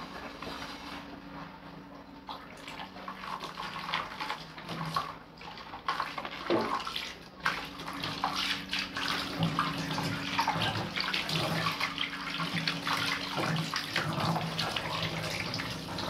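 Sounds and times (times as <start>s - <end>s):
water running from a tap: 2.3s - 16.0s.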